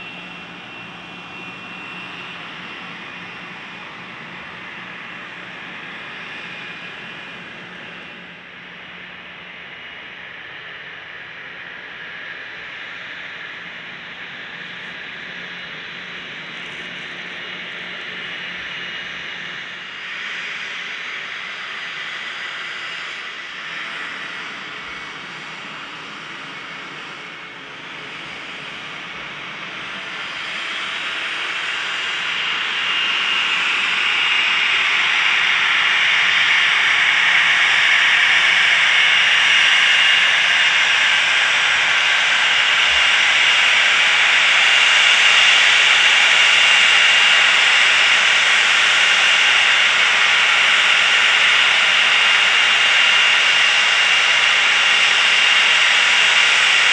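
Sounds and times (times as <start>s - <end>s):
jet engines hissing whine: 0.0s - 56.9s.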